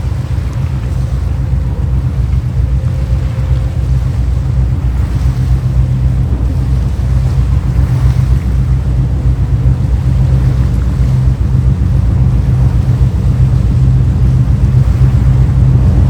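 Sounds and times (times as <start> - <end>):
boat engines rumbling: 0.0 - 16.0
rushing water: 0.0 - 16.0
wind on microphone: 0.0 - 16.0.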